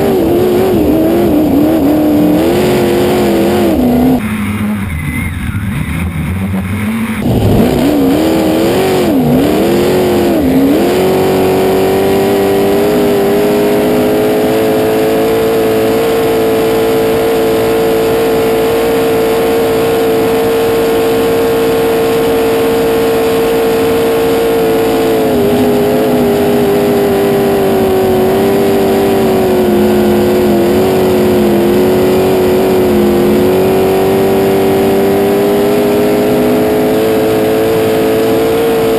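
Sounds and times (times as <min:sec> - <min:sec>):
race boat engine revving: 0:00.0 - 0:38.9.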